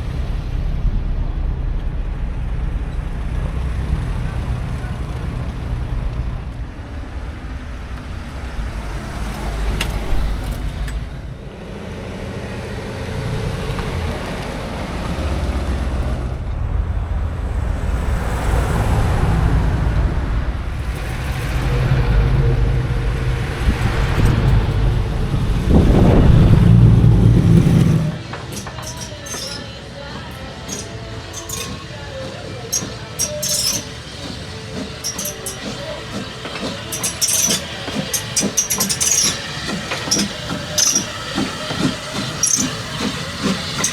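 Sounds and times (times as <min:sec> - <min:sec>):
vehicles passing: 0:00.0 - 0:37.9.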